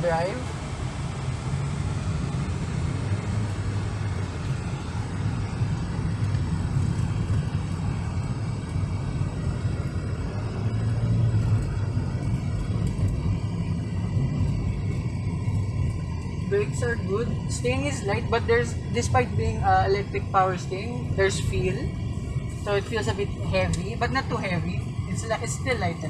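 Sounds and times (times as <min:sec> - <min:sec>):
car engine drone in cabin: 0:00.0 - 0:26.0.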